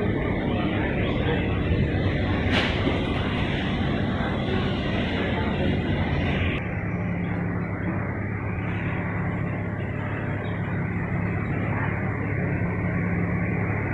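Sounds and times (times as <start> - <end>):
engine droning: 0.0 - 13.9.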